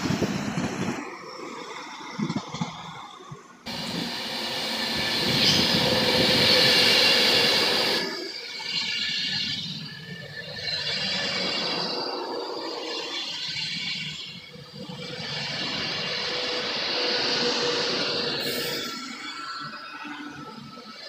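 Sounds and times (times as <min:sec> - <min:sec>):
express train rushing past: 0:00.0 - 0:21.0.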